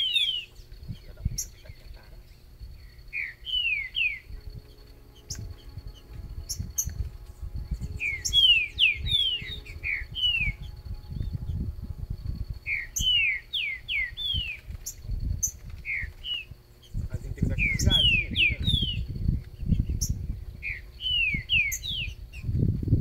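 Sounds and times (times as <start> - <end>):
bird singing downward whistles: 0.0 - 1.7, 2.3 - 22.5
low rumble: 0.6 - 23.0.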